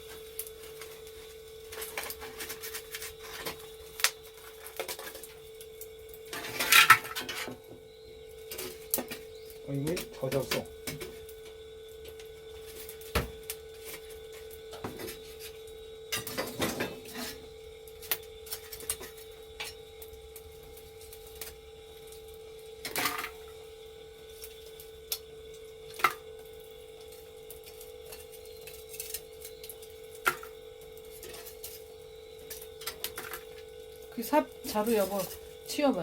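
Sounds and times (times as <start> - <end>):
faint hum: 0.0 - 36.0.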